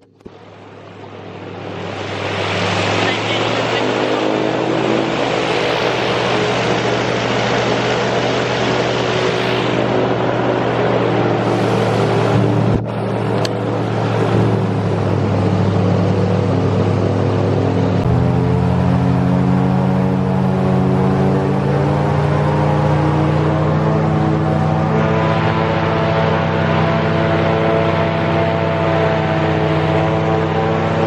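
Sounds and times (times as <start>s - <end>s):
airboat engine and propeller running: 0.0s - 31.0s
rushing water: 0.3s - 29.0s.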